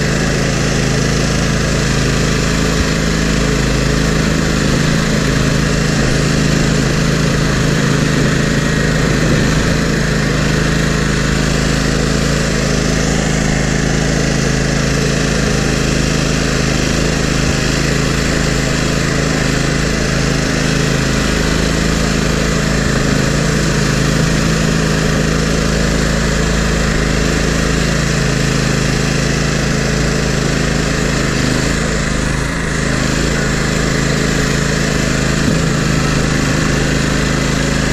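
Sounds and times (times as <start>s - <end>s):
snow plow engine running: 0.0s - 37.9s.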